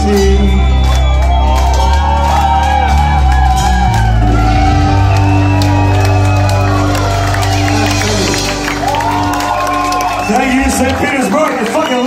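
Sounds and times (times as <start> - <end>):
live reggae-punk band playing: 0.0 - 9.7
crowd shouting and whooping: 0.0 - 12.0.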